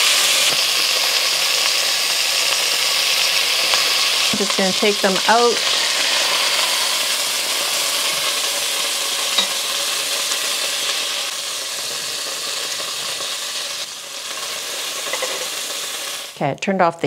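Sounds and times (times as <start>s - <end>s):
chicken frying in oil: 0.0s - 16.4s.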